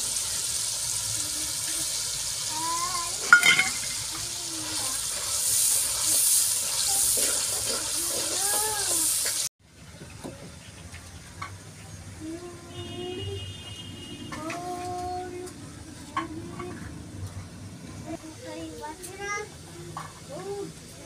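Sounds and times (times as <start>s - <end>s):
masala sizzling in a pot: 0.0s - 21.0s.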